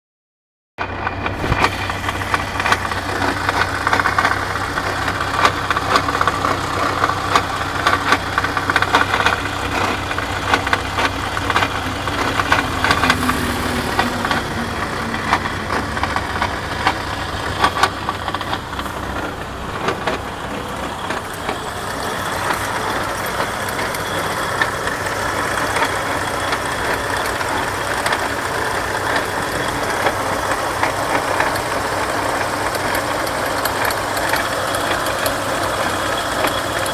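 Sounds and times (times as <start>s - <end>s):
vehicle running: 0.8s - 36.9s
rear axle knocking: 1.2s - 36.9s.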